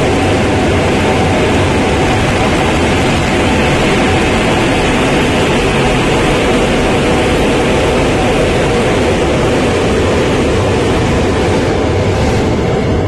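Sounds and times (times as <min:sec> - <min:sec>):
train rumbling over steel bridge: 0:00.0 - 0:13.0.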